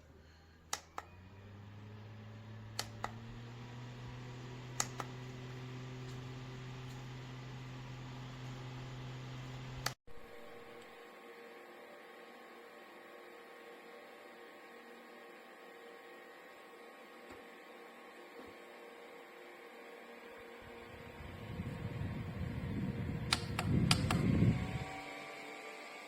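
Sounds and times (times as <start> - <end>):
desk fan whirring: 0.0 - 26.0.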